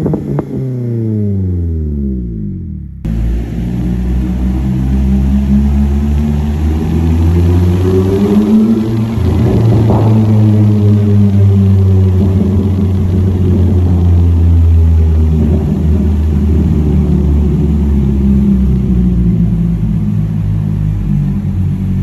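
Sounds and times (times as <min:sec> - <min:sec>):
loud car exhaust crackling: 0:00.0 - 0:22.0.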